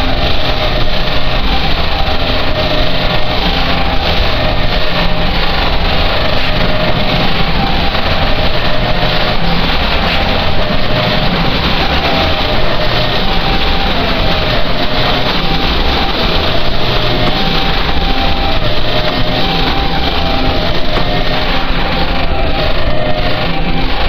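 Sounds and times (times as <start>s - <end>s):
faint wavering tones: 0.0s - 24.0s
harsh distorted noise music: 0.0s - 24.0s.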